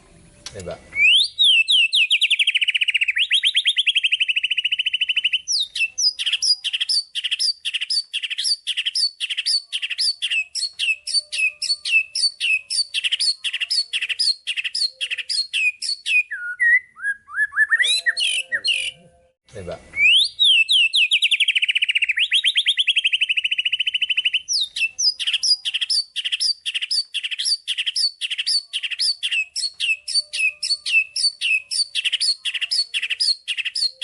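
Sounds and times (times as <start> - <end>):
songbird singing trills and whistles: 0.4 - 19.1, 20.0 - 34.0.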